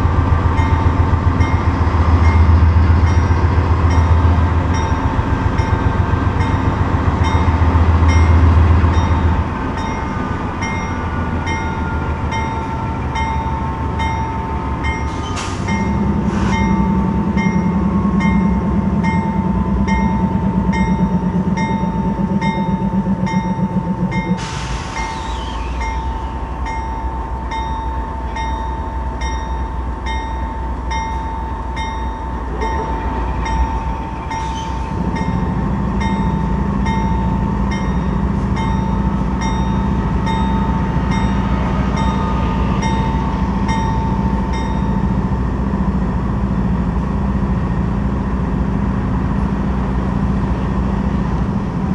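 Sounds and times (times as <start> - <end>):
diesel locomotive engines: 0.0 - 51.9.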